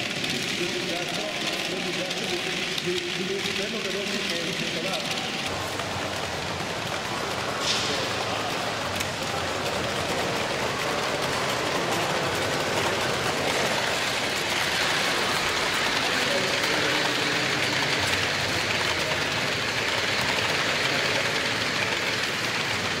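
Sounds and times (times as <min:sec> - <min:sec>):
background murmur: 0:00.0 - 0:23.0
model trains whirring rattle: 0:00.0 - 0:23.0.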